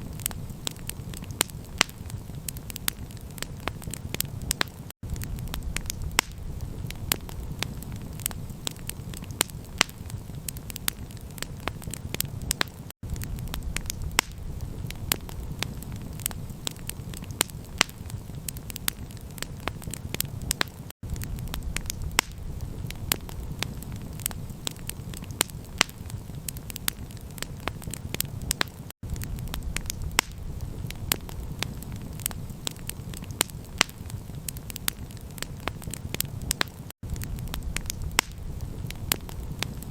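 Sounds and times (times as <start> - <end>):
campfire pops and snaps: 0.0 - 39.9
low fire rumble: 0.0 - 39.9.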